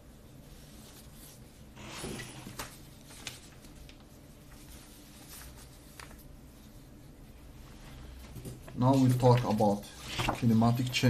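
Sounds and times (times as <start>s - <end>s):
paper rustle: 0.6s - 6.8s, 8.0s - 11.0s.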